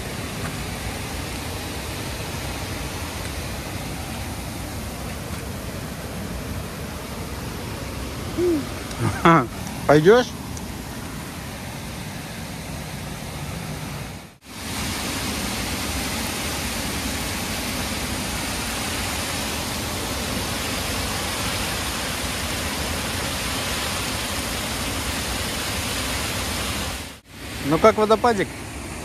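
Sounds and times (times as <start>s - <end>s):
small waterfall rushing: 0.0s - 29.0s.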